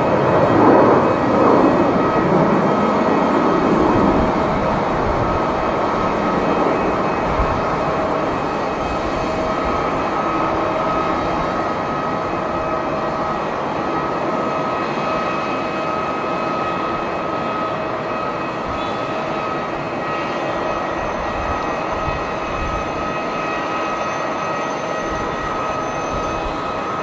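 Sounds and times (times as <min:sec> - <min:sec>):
wind rumbling on microphone: 0:00.0 - 0:23.7, 0:24.9 - 0:27.0
jet engines whining: 0:00.0 - 0:27.0.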